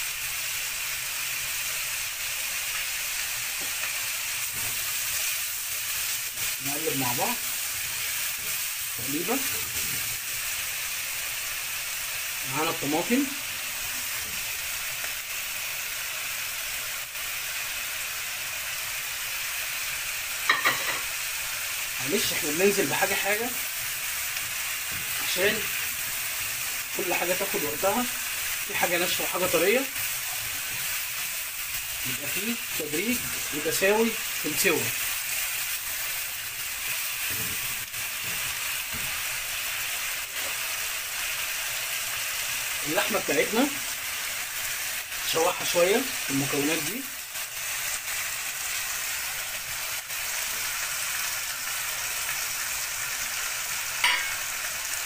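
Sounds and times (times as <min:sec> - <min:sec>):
onions sizzling in frying pan: 0:00.0 - 0:55.0.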